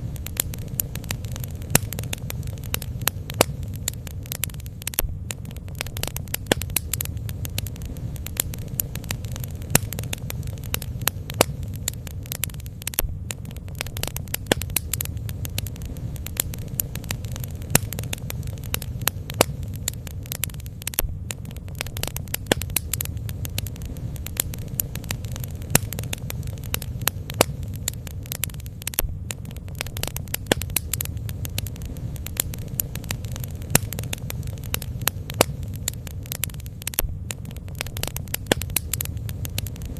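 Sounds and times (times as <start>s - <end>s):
bonfire crackling and popping: 0.0s - 39.9s
low rumble: 0.0s - 39.9s.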